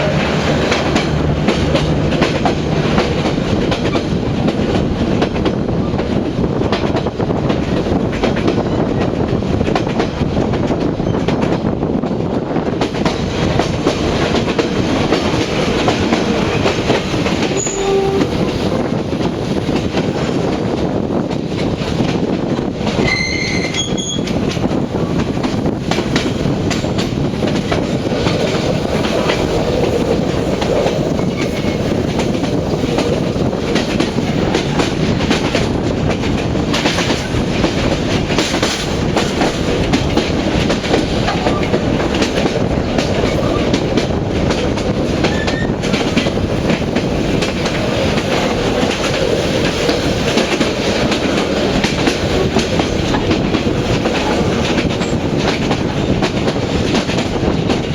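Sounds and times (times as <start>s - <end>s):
wheels clacking over rail joints: 0.0s - 11.8s, 12.7s - 57.9s
train wheels rumbling on rails: 0.0s - 57.9s.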